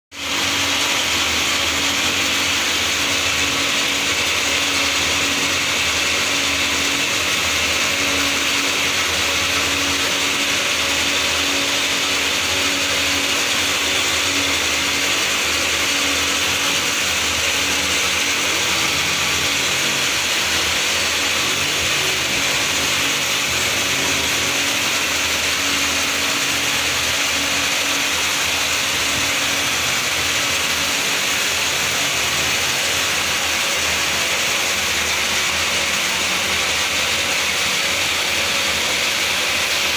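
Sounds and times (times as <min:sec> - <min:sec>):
continuous machine hiss: 0:00.1 - 0:39.9
low machine hum: 0:00.2 - 0:39.9.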